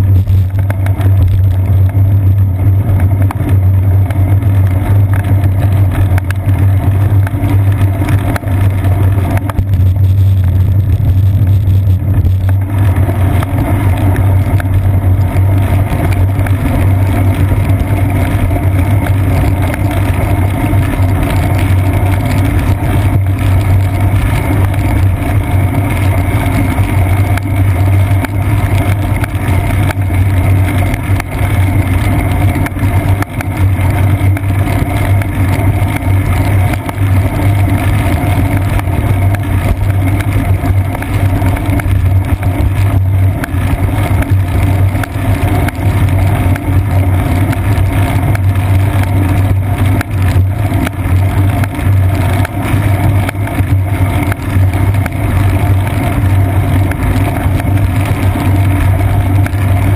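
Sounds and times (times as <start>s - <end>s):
bicycle rattling over wet pavement: 0.0s - 59.9s
strong low hum: 0.0s - 59.9s.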